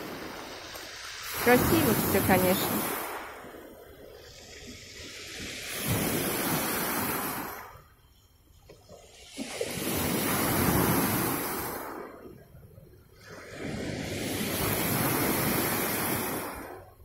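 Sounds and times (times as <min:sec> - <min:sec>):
waves washing on pebble beach: 0:00.0 - 0:07.8, 0:09.2 - 0:12.2, 0:13.2 - 0:16.8.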